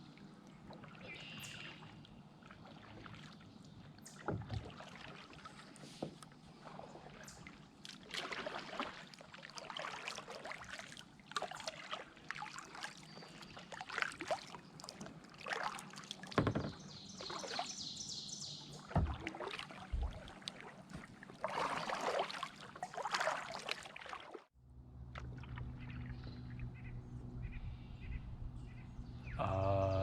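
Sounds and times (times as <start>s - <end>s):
paddle splashing in water: 0.0s - 27.0s.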